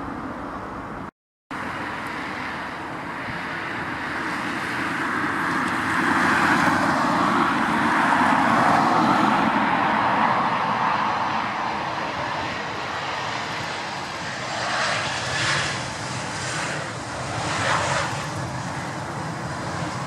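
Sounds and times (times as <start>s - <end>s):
jet airliner flying past: 0.0s - 20.0s.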